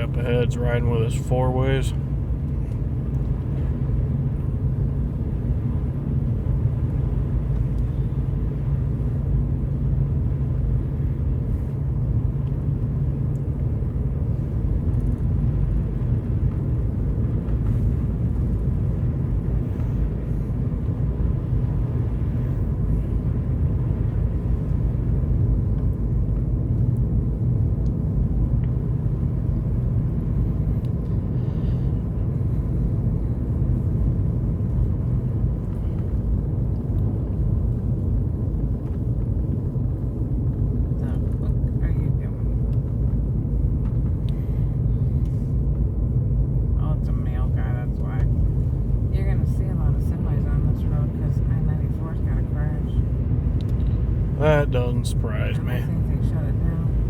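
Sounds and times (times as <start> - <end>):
vehicle engine and tyres rumbling: 0.0 - 57.0.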